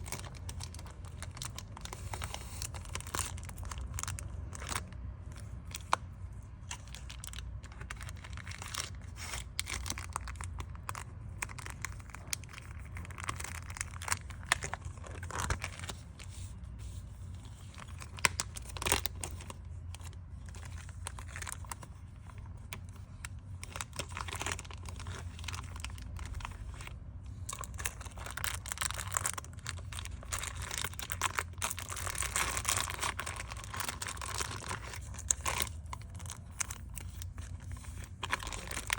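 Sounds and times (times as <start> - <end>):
plastic sleeves crinkling: 0.0 - 38.9.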